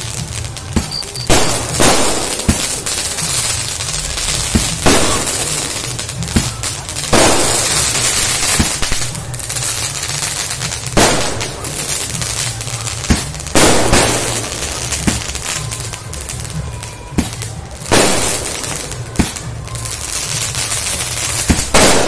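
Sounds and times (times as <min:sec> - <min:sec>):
firework shells bursting: 0:00.0 - 0:16.6, 0:17.2 - 0:22.0
small firework pops: 0:00.0 - 0:22.0.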